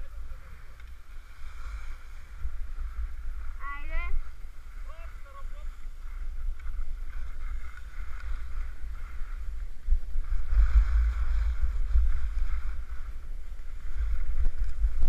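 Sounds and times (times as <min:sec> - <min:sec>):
wind buffeting microphone: 0:00.0 - 0:15.0
skis hissing on snow: 0:00.1 - 0:14.4.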